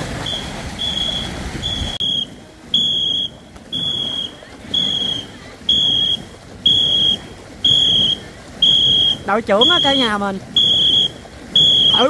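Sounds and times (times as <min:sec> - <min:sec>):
high whistle blasts: 0:00.2 - 0:12.0.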